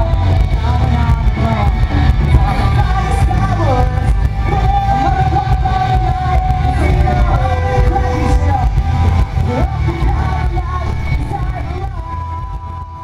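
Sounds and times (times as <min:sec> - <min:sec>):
loud music with heavy bass: 0:00.0 - 0:13.0.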